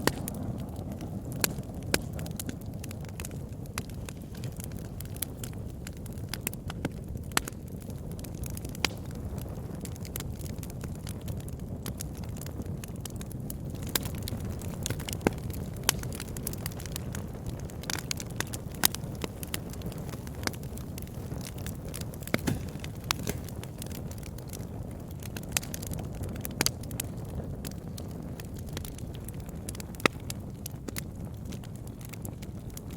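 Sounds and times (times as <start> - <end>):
campfire flames rushing: 0.0 - 32.9
fire crackling and popping: 0.0 - 32.9.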